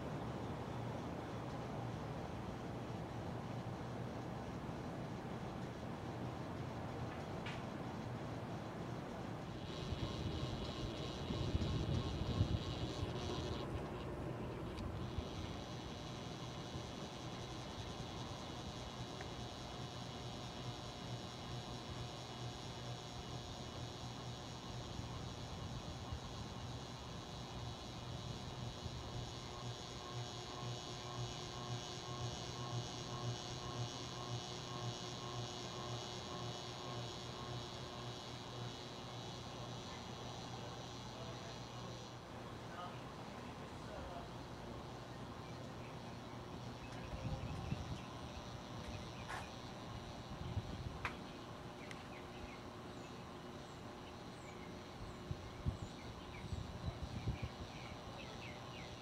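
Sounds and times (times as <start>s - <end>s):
ceiling fan motor hum: 0.0s - 59.0s
faint steady hiss: 0.0s - 59.0s.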